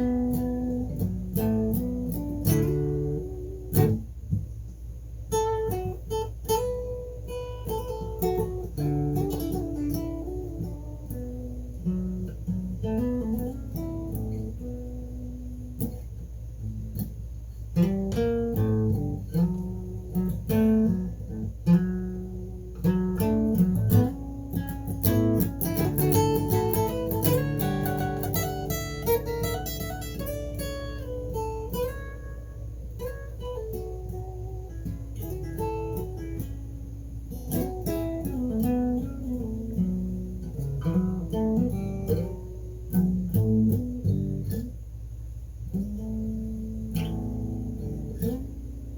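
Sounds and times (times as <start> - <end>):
acoustic guitar playing: 0.0 - 48.9
steady low hum: 0.0 - 48.9.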